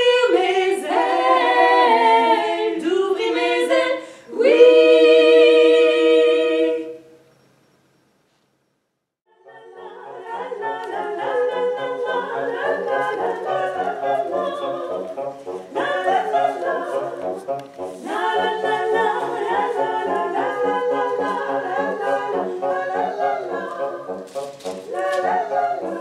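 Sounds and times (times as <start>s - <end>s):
voices singing a cappella: 0.0s - 7.2s, 9.3s - 26.0s.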